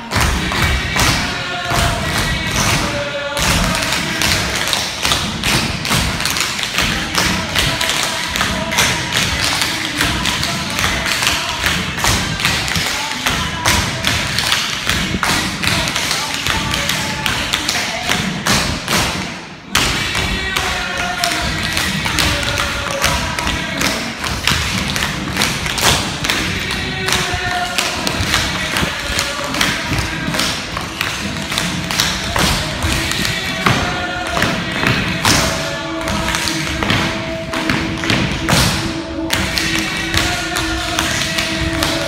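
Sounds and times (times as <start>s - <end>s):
music playing: 0.0s - 42.0s
tap shoes on hardwood floor: 0.1s - 42.0s.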